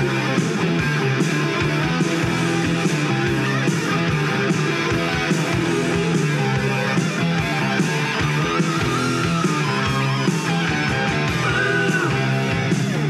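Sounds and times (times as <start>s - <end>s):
rock music through loudspeaker: 0.0s - 13.0s.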